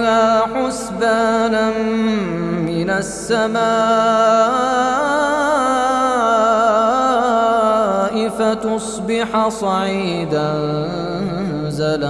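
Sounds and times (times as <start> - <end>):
man reciting in melodic style: 0.0 - 12.0.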